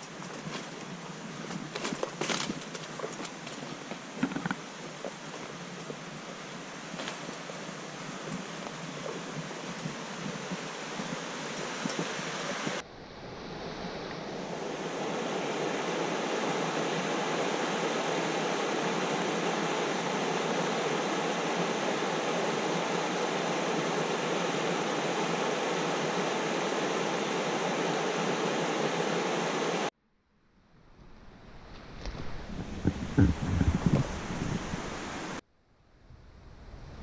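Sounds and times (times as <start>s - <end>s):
steady outdoor rushing noise: 0.0s - 29.9s.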